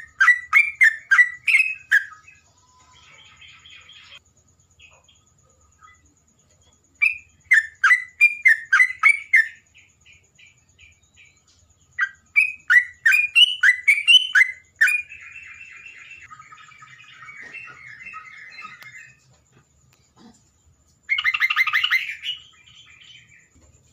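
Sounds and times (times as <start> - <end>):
songbird singing: 0.0 - 23.9.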